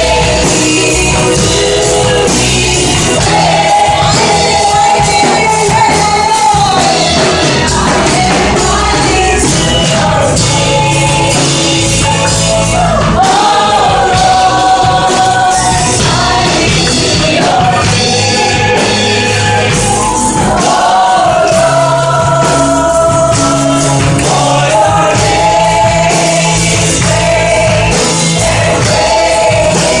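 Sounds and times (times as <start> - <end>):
worship song with singing: 0.0 - 30.0.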